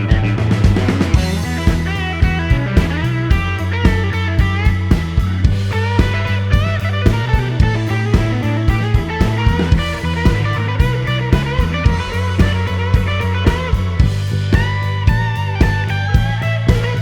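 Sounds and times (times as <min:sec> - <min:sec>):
rock music with guitars and drums: 0:00.0 - 0:17.0.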